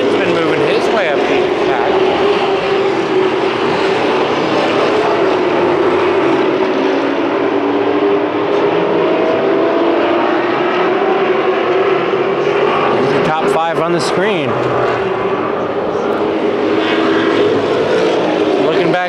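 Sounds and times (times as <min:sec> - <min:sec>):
race truck engines droning: 0:00.0 - 0:19.0.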